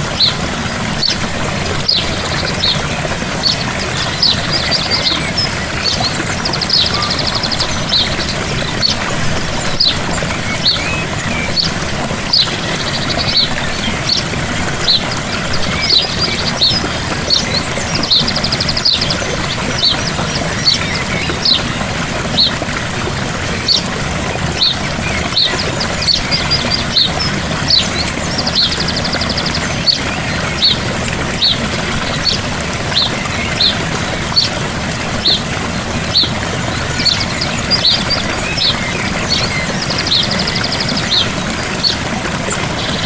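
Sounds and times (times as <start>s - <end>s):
birds chirping: 0.0s - 43.0s
gentle waterfall pouring: 0.0s - 43.0s.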